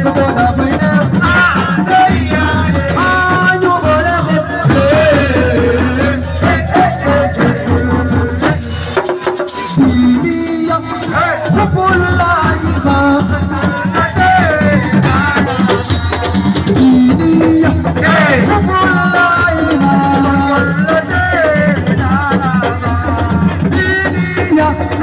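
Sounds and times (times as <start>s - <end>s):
person singing: 0.0s - 8.7s, 9.6s - 25.0s
fast percussion: 0.0s - 25.0s.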